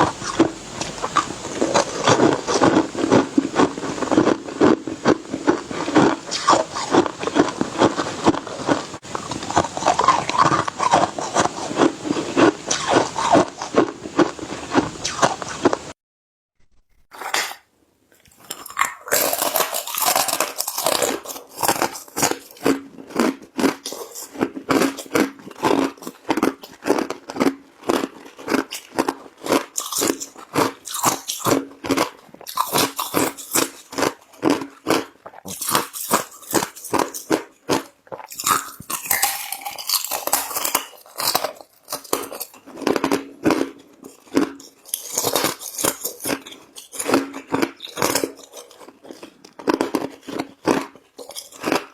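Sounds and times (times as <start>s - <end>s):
ice crunched between teeth: 0.0s - 15.8s, 18.3s - 51.9s.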